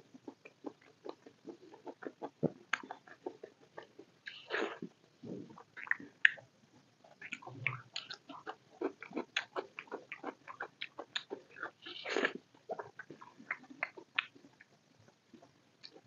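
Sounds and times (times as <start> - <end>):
chewing and mouth smacking: 0.2 - 4.9, 7.0 - 16.0.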